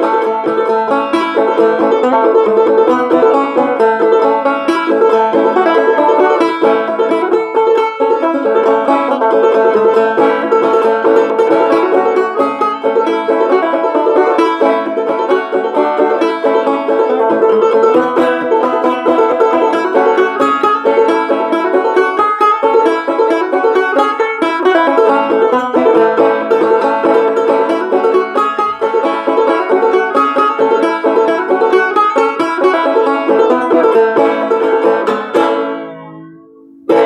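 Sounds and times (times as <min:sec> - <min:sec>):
banjo plucked notes: 0:00.0 - 0:37.0.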